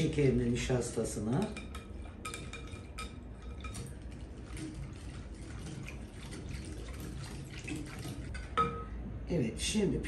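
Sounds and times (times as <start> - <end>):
whisk stirring liquid in bowl: 0.0 - 8.6.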